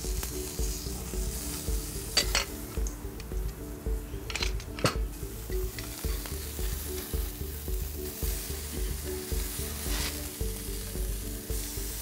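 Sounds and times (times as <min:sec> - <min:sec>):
chicken sizzling on a grill: 0:00.0 - 0:03.0, 0:05.1 - 0:12.0
background music with steady beat: 0:00.0 - 0:12.0.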